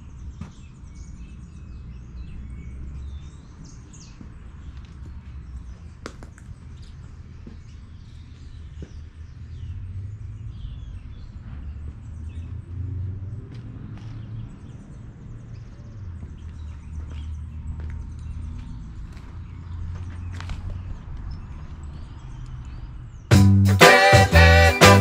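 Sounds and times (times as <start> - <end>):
birds chirping and calling: 0.0 - 25.0.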